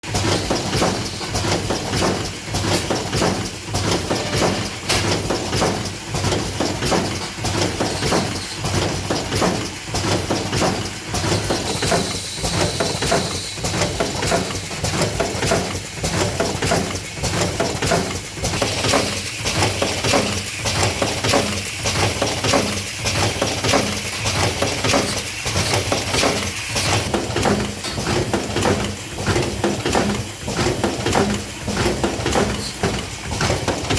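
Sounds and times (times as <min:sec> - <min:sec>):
machine knocking and clinking: 0:00.0 - 0:33.9.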